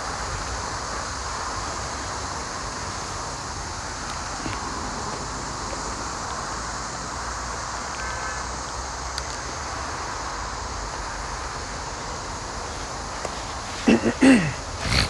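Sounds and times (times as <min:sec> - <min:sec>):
distant traffic hum: 0:00.0 - 0:15.0
wind: 0:00.0 - 0:15.0.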